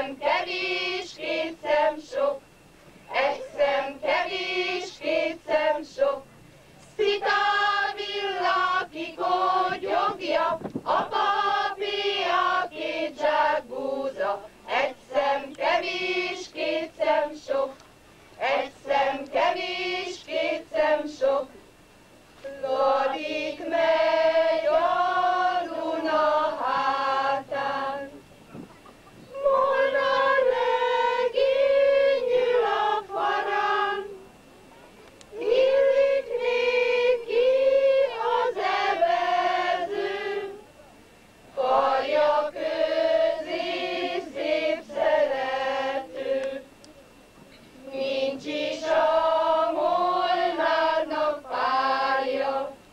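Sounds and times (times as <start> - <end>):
group singing in unison: 0.0 - 2.4, 3.0 - 6.3, 6.9 - 17.8, 18.4 - 21.6, 22.5 - 28.2, 29.3 - 34.5, 35.3 - 40.7, 41.5 - 46.8, 47.8 - 52.9.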